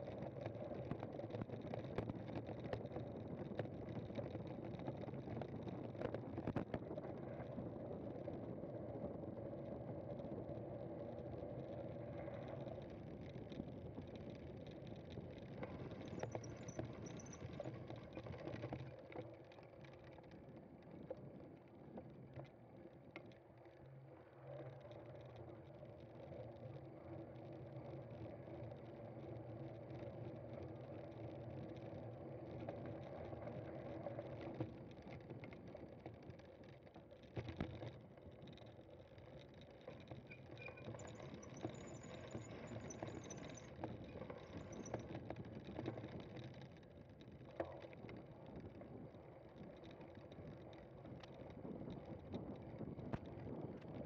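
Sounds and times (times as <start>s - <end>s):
bicycle tyres rolling on rough ground: 0.0s - 54.0s.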